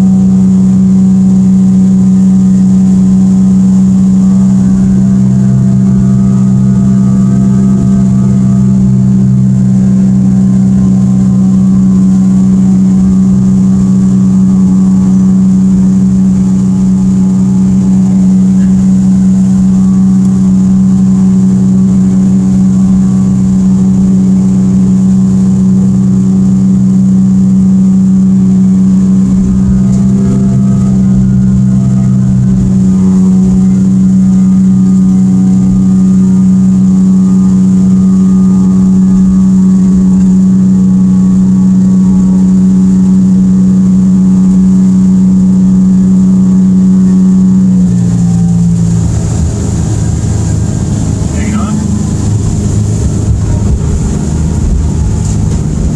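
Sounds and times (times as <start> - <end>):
outboard motor at high throttle: 0.0 - 55.9
wind and water noise: 0.0 - 55.9.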